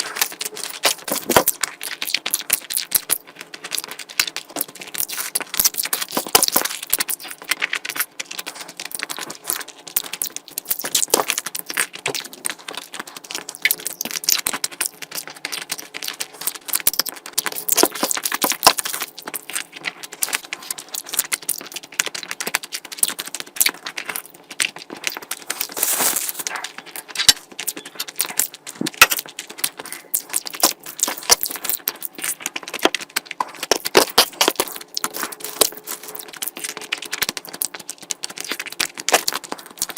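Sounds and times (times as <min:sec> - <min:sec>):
crackling clicks: 0:00.0 - 0:39.9
wet chewing: 0:00.0 - 0:39.9.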